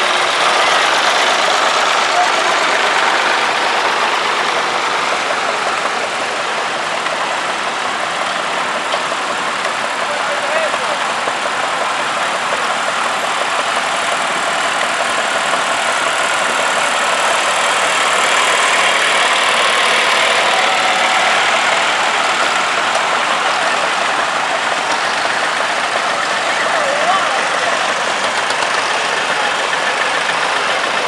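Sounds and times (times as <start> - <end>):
tractor engines running: 0.0 - 31.0.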